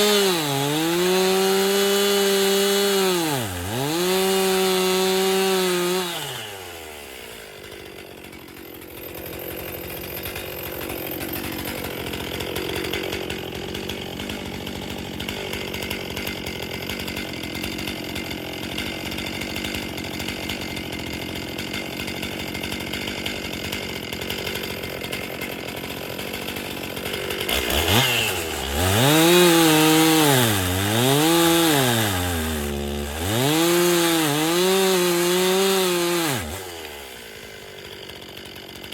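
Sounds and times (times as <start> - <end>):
chainsaw engine idling and revving: 0.0 - 38.9.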